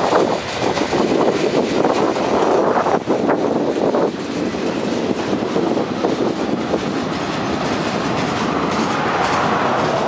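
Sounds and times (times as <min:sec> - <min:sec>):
freight train wheels clattering: 0:00.0 - 0:10.0.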